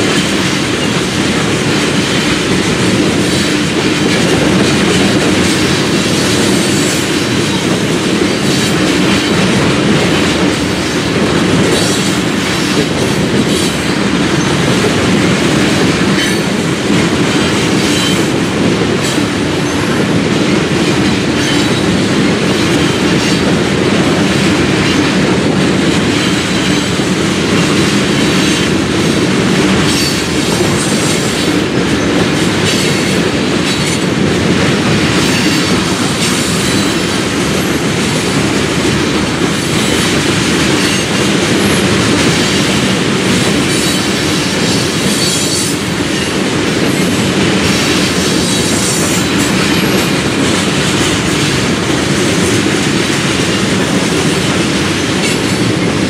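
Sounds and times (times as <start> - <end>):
freight train rolling past: 0.0 - 56.0
wheels clacking over rail joints: 0.0 - 56.0.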